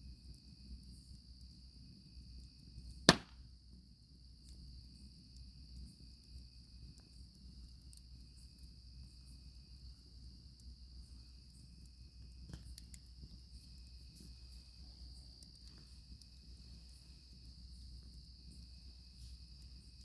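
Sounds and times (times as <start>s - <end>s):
campfire crackling and popping: 0.0s - 20.0s
crickets trilling: 0.0s - 20.0s.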